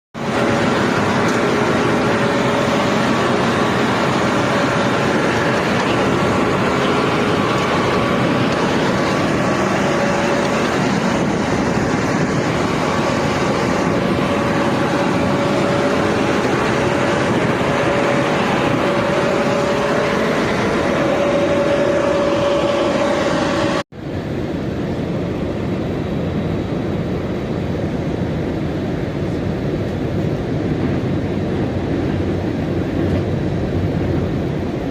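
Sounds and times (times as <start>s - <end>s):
aircraft cabin engine rush: 0.2s - 34.9s.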